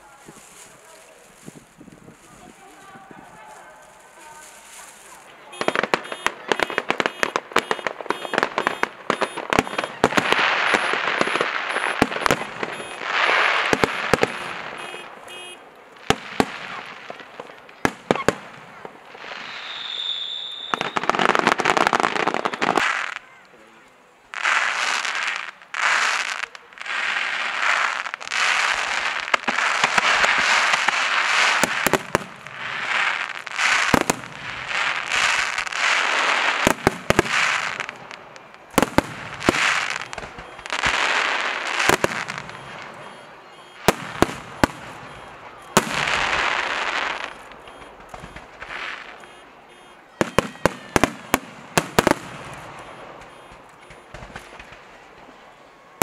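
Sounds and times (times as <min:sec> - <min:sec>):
aerial fireworks bursts: 0:00.0 - 0:23.3, 0:24.3 - 0:55.5
fireworks bangs: 0:00.0 - 0:23.3, 0:24.3 - 0:56.0.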